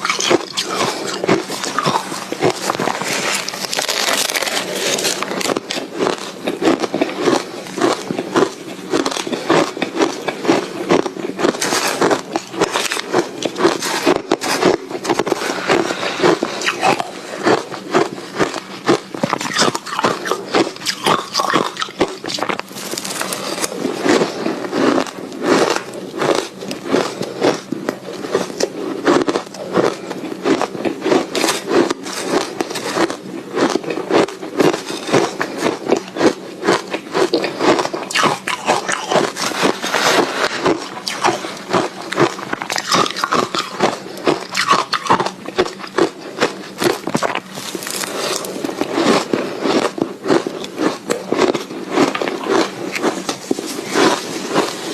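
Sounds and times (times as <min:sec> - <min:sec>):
ice being chewed: 0:00.0 - 0:54.9.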